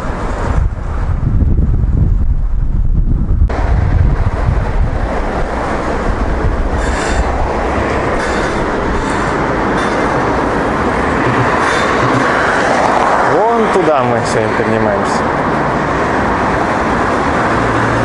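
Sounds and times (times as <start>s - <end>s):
street traffic rushing: 0.0s - 18.0s.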